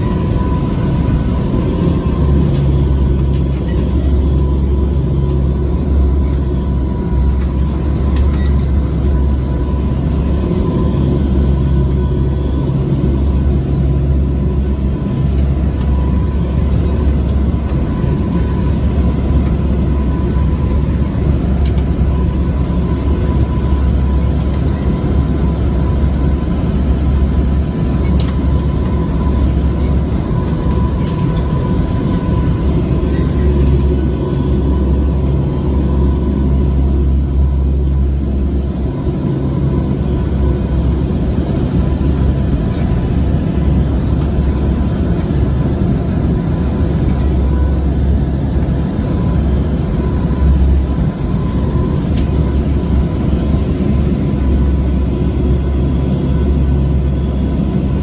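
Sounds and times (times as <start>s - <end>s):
aircraft engine and airflow rumble: 0.0s - 58.0s.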